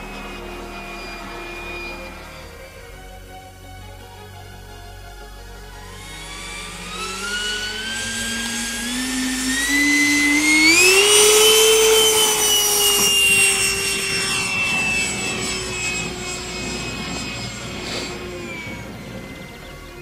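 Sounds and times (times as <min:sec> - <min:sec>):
electric ducted fan whine: 0:00.0 - 0:20.0.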